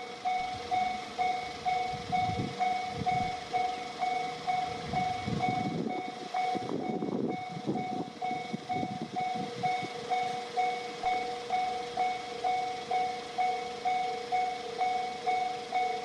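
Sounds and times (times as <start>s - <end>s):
level crossing warning bell: 0.0s - 16.0s
train rumble and clatter: 0.0s - 16.0s.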